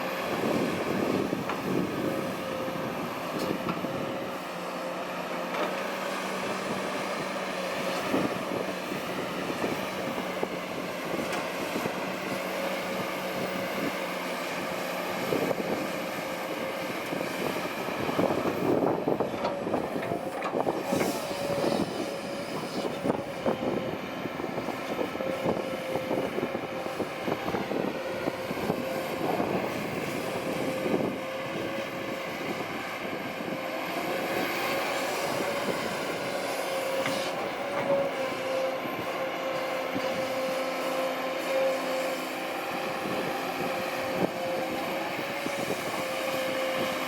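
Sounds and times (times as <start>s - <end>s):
excavator engine running: 0.0s - 47.0s.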